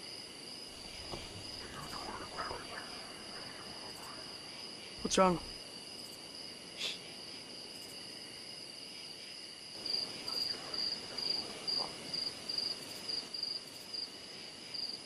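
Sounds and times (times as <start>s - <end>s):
crickets trilling: 0.0s - 15.0s
pulsing cricket chirp: 0.0s - 15.0s.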